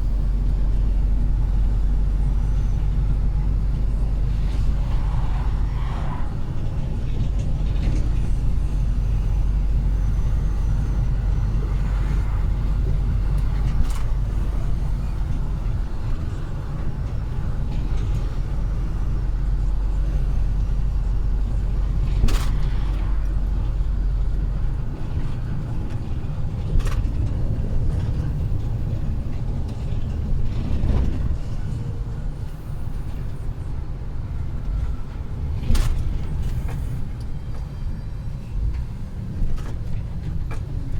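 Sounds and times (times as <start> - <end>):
heavy truck driving: 0.0 - 40.9.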